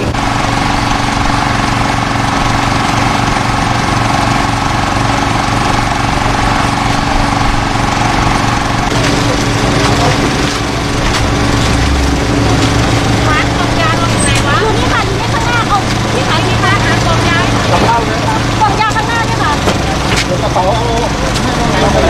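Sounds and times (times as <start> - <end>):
high steady whine: 0.0 - 21.1
small petrol engine running: 0.0 - 22.0.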